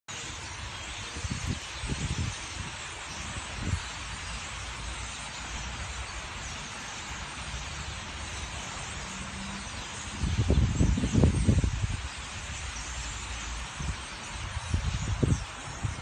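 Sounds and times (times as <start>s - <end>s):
steady hiss: 0.1s - 16.0s.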